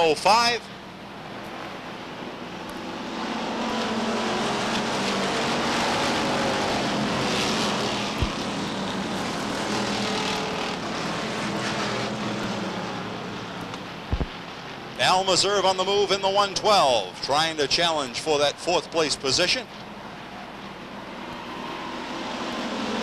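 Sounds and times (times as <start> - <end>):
stock car engines racing: 0.0 - 23.0.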